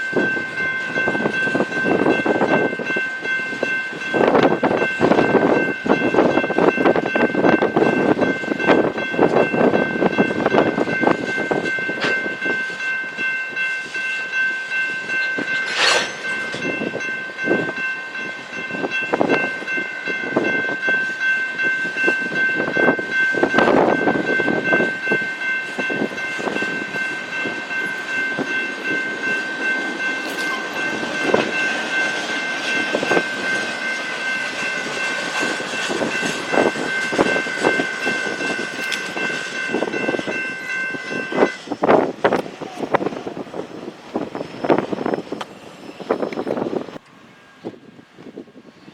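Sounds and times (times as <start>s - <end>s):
train wheels clacking on rails: 0.0s - 47.0s.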